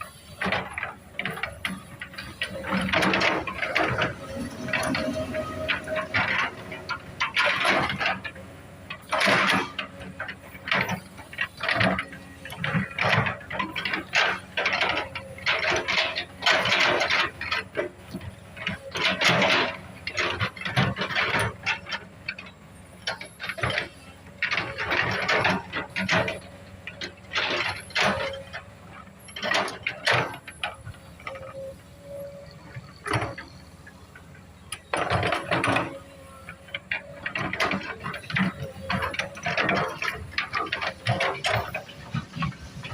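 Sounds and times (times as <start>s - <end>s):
excavator clanking and scraping: 0.0s - 42.9s.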